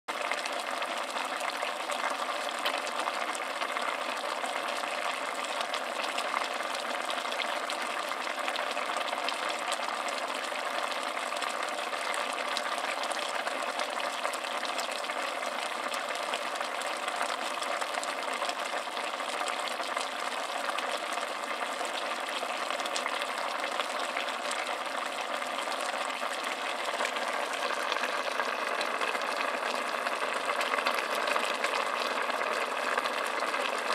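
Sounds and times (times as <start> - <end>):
meat simmering and bubbling: 0.1 - 33.9.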